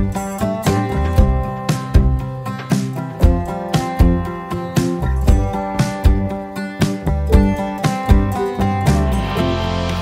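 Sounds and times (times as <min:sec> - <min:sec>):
background music with picked notes: 0:00.0 - 0:10.0.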